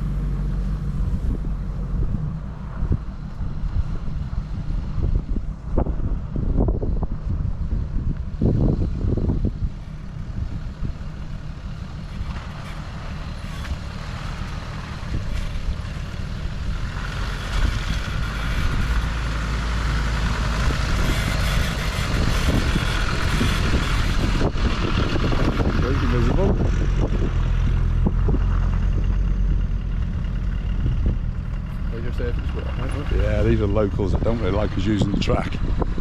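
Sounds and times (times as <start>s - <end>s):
vehicle engine low rumble: 0.0s - 36.0s.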